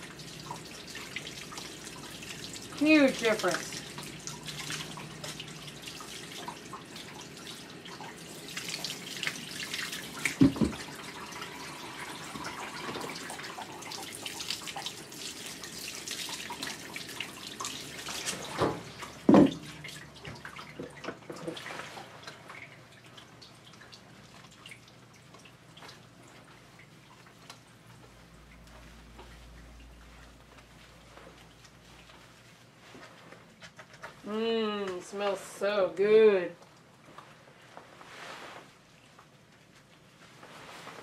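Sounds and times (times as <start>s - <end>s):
water spraying and splashing: 0.0s - 35.8s
water dripping: 0.0s - 37.3s.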